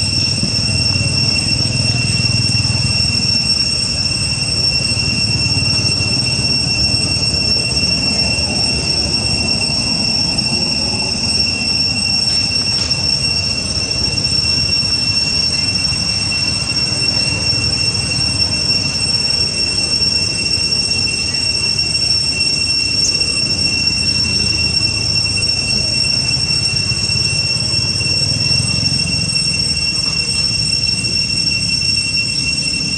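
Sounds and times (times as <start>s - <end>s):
high-pitched whine: 0.0s - 32.9s.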